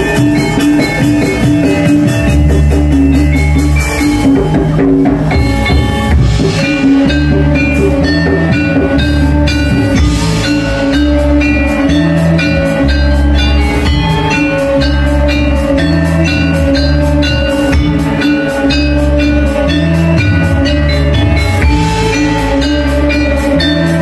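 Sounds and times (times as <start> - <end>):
drumming: 0.0 - 24.0
metallophone notes: 0.0 - 24.0
sustained low tones: 0.0 - 24.0.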